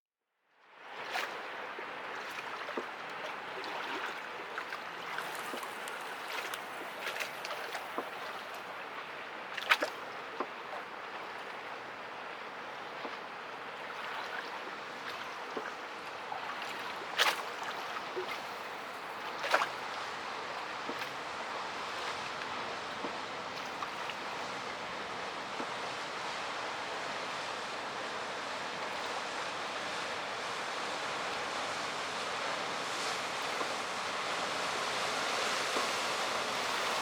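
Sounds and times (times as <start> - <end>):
water rushing along a hull: 0.6 - 37.0.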